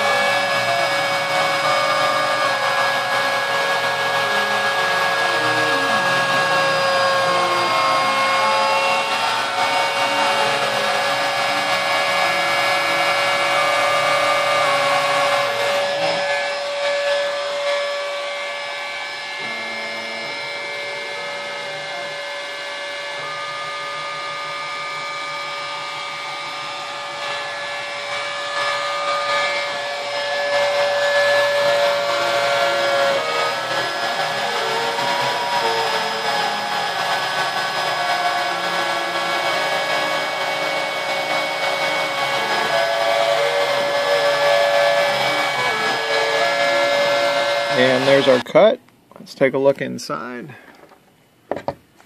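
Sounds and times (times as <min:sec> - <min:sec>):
stepper motor tones: 0:00.0 - 0:48.6
wood router whine: 0:00.0 - 0:48.7.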